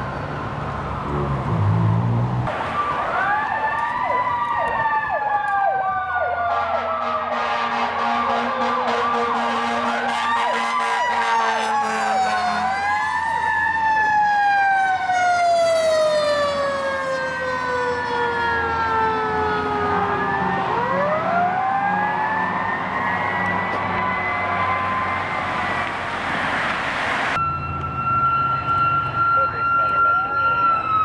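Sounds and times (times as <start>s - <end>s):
fire engine siren wailing: 0.0s - 31.0s.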